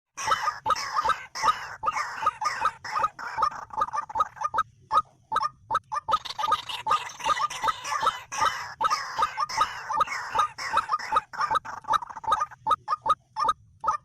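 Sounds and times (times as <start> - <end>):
waterhen calling: 0.2 - 4.7, 5.4 - 14.0.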